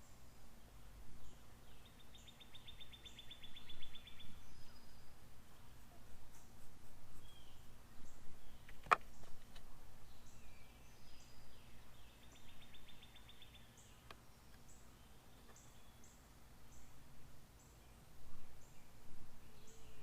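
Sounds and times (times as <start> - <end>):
low steady hum: 0.0 - 20.0
songbirds chirping and trilling: 0.0 - 20.0.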